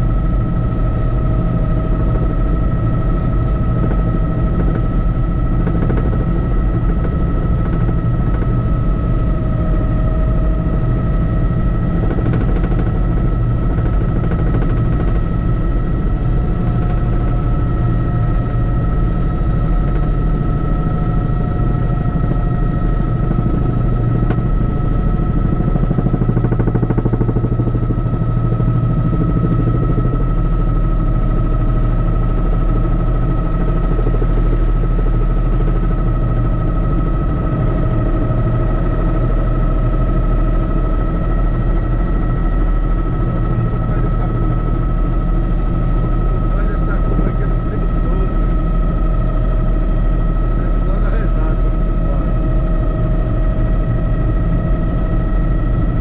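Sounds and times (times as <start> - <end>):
helicopter rotor beat: 0.0 - 56.0
high turbine whine: 0.0 - 56.0.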